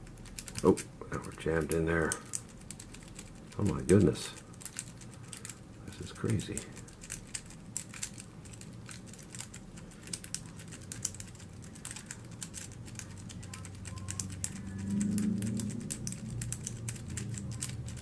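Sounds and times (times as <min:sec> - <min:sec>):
low hum: 0:02.4 - 0:18.0.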